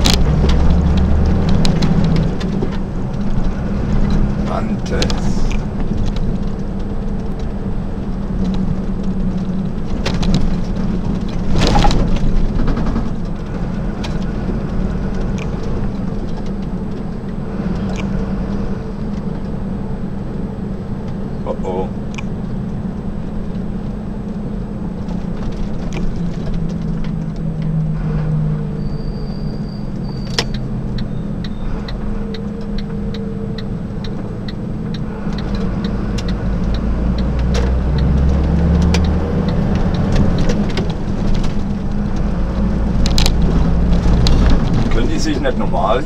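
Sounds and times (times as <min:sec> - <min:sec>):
cab rattles and clicks: 0:00.0 - 0:18.2, 0:25.0 - 0:27.8, 0:30.0 - 0:46.0
diesel engine running: 0:00.0 - 0:46.0.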